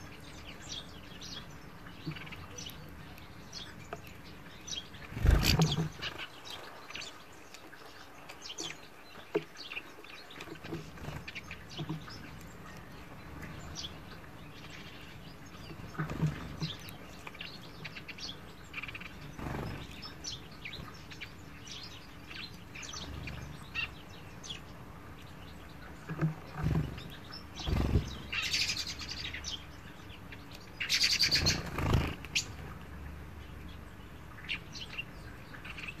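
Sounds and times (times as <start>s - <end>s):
finches chirping: 0.0s - 36.0s.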